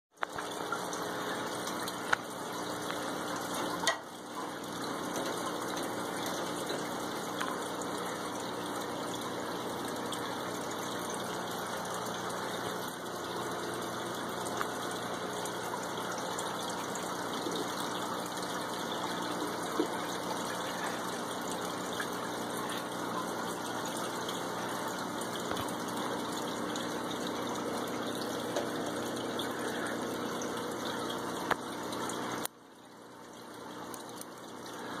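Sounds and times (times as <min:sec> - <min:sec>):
aquarium filter water rushing: 0:00.2 - 0:35.0
faint motor hum: 0:00.2 - 0:35.0.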